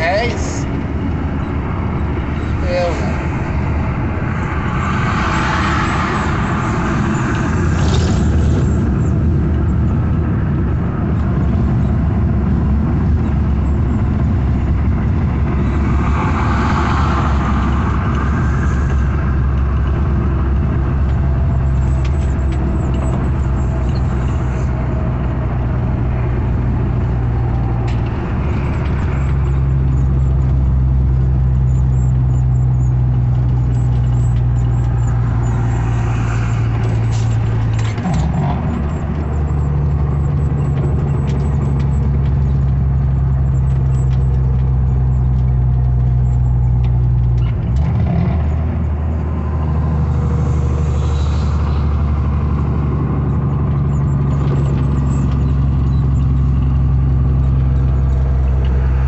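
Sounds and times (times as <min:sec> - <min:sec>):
diesel engine droning: 0:00.0 - 0:59.0
higher engine tone: 0:00.0 - 0:59.0
road and tyre noise: 0:00.0 - 0:59.0.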